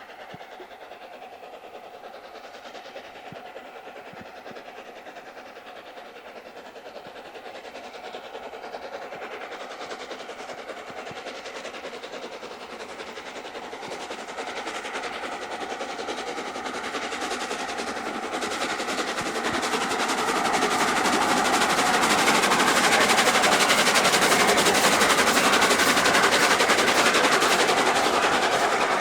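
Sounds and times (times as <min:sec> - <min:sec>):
steam train running past: 0:00.0 - 0:29.0.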